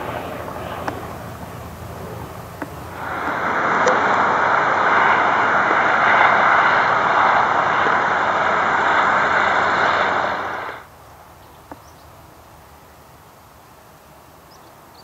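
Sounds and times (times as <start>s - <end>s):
aircraft engines roaring past: 0.0s - 15.0s.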